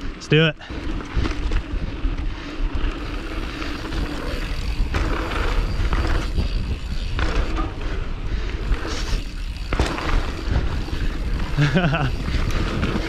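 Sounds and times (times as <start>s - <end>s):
bike tyres crunching over dirt: 0.0s - 13.0s
wind rumbling on microphone: 0.8s - 13.0s.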